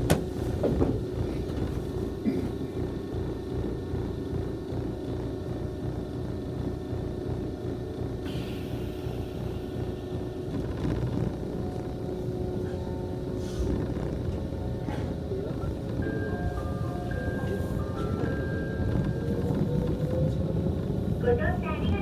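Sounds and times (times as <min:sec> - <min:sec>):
train equipment rumble and hum: 0:00.0 - 0:22.0
whining motor tones: 0:00.8 - 0:22.0.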